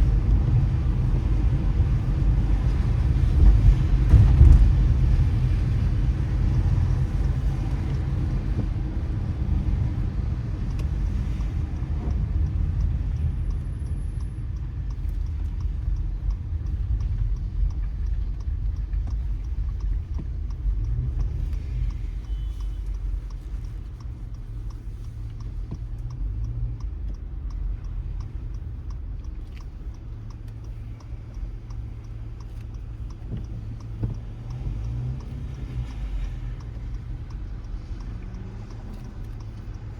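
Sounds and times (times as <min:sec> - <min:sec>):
faint hiss of wet road: 0:00.0 - 0:39.9
tyres and engine rumble: 0:00.0 - 0:39.9.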